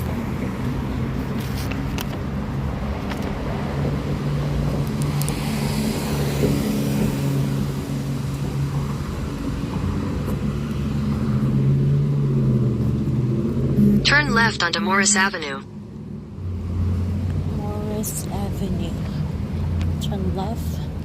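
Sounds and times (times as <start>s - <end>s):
car engine and road hum: 0.0s - 21.0s.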